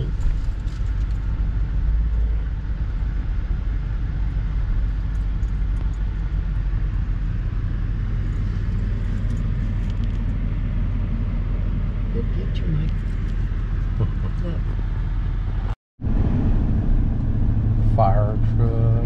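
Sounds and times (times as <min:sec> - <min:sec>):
engine and tyre noise: 0:00.0 - 0:19.0
truck road rumble: 0:00.0 - 0:19.0.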